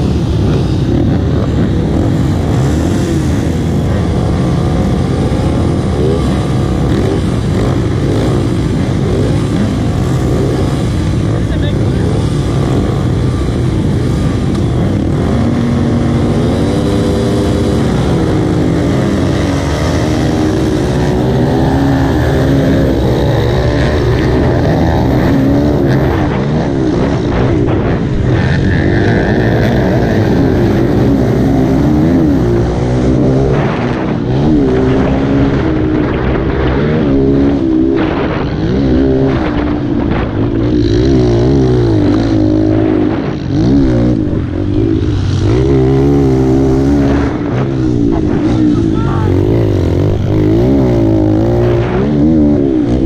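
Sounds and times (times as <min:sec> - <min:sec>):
pit bike engines racing: 0:00.0 - 0:53.0.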